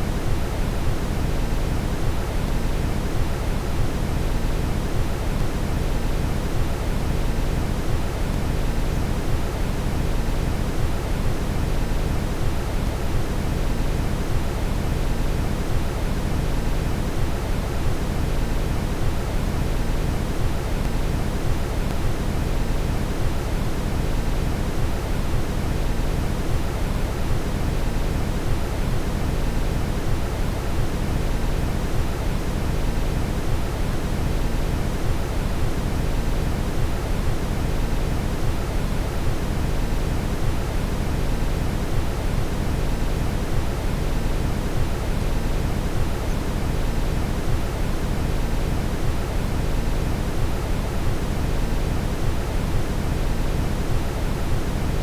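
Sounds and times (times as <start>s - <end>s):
brown noise hiss: 0.0s - 55.0s.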